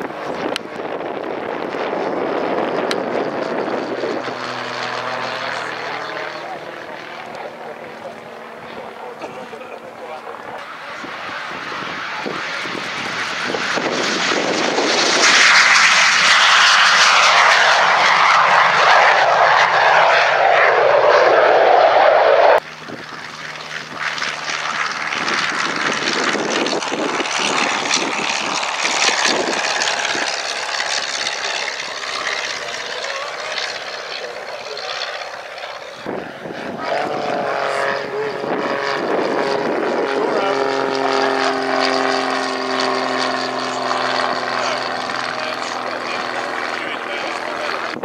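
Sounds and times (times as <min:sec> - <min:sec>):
jet engine roaring: 0:00.0 - 0:48.0
light aircraft piston engine: 0:00.0 - 0:48.0.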